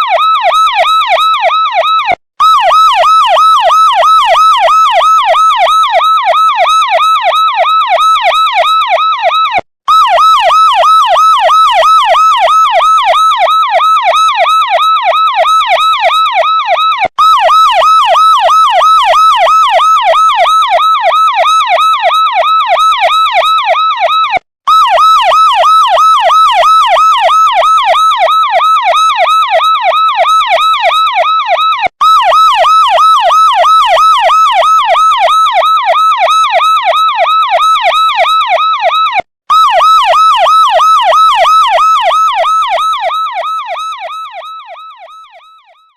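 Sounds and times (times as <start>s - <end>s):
police siren yelping: 0.0s - 45.9s.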